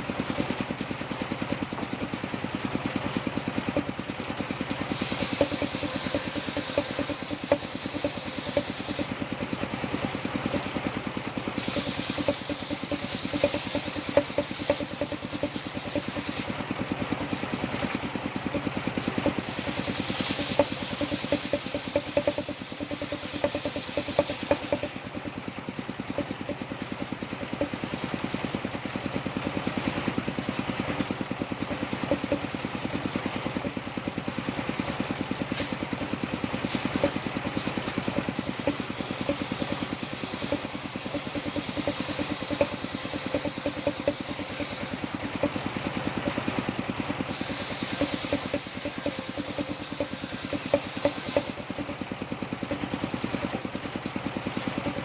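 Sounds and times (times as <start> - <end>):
sawmill engine pulsing: 0.0 - 55.0.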